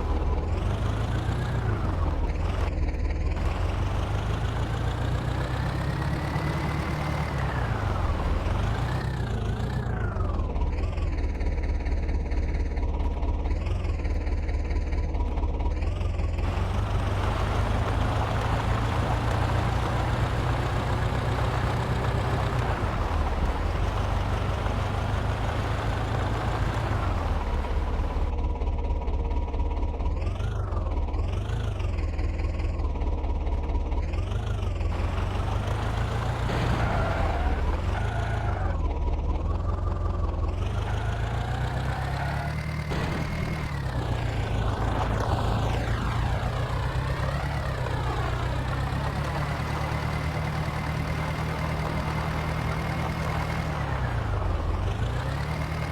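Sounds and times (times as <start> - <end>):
tractor diesel engine rumbling: 0.0 - 28.4, 33.2 - 55.9.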